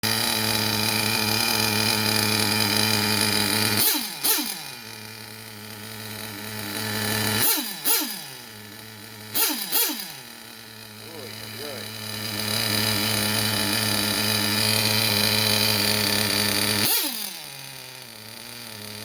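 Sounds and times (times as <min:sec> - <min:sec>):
small nitro engine revving: 0:00.0 - 0:19.0.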